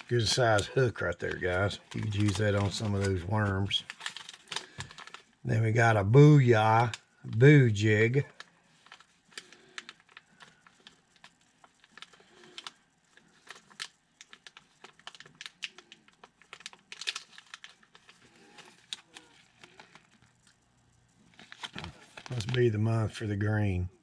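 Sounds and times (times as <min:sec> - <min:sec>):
plastic packaging crinkling: 0:00.0 - 0:22.8.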